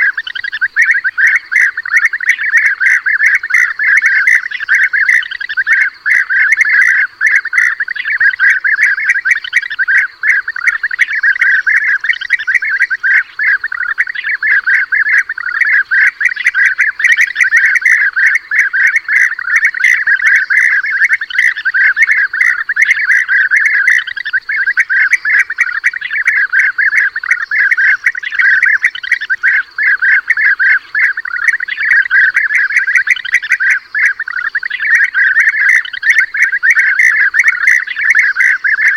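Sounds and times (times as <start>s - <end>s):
bee-eaters trilling calls: 0.0s - 38.9s.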